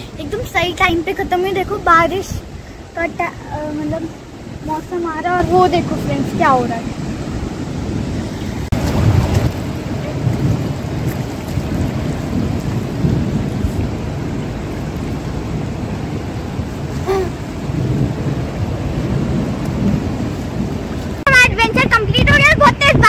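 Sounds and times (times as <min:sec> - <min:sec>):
river current rushing: 0:00.0 - 0:22.2
wind buffeting microphone: 0:00.0 - 0:23.0.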